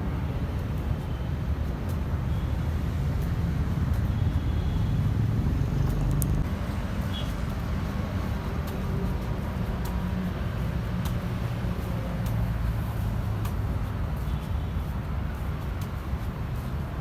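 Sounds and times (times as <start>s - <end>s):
passing vehicles rumbling: 0.0s - 17.0s.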